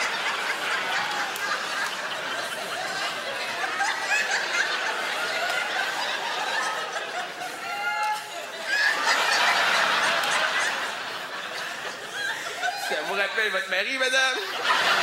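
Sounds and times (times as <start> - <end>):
audience laughing: 0.0 - 15.0.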